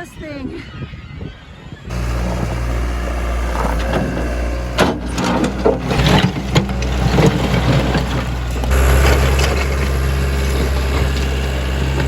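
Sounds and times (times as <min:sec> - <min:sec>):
knocks and clattering: 0:01.9 - 0:12.0
vehicle engine idling: 0:01.9 - 0:12.0.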